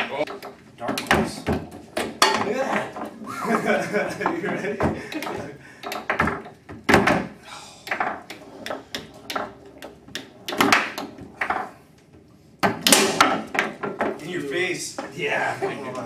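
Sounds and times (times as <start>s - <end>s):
foosball ball clacks: 0.0s - 14.2s
foosball rods banging: 0.0s - 16.0s.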